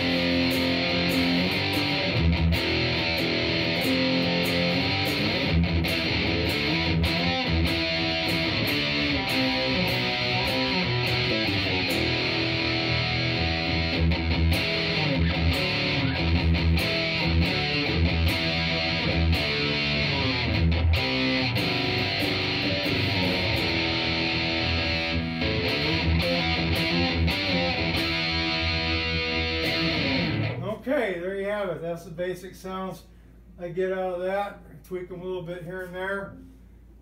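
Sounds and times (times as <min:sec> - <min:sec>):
distorted electric guitar riffing: 0:00.0 - 0:30.8.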